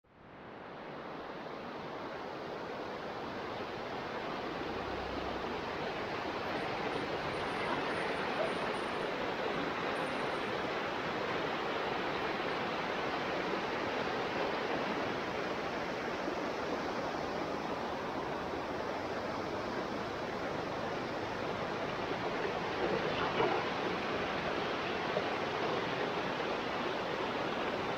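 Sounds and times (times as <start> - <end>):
floodwater rushing over bridge: 1.7 - 27.9.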